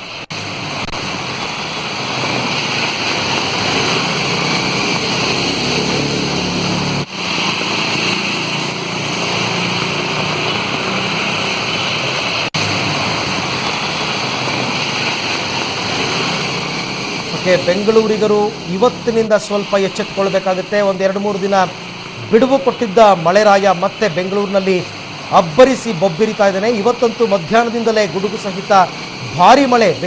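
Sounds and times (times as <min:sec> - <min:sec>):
floodwater rushing: 0:00.0 - 0:30.0
heavy rain: 0:00.0 - 0:30.0.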